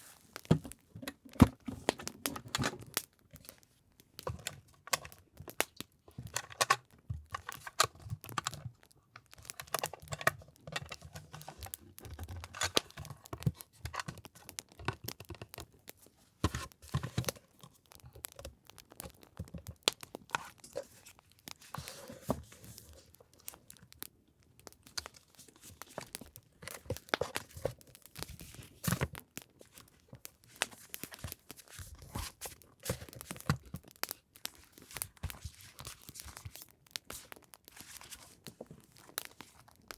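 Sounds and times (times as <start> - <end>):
packaging crinkling and tearing: 0.0 - 39.9.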